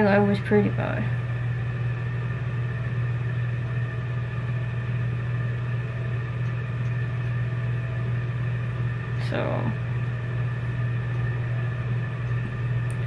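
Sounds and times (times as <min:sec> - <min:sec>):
faint steady tones: 0:00.0 - 0:13.0
low mechanical hum: 0:00.0 - 0:13.0.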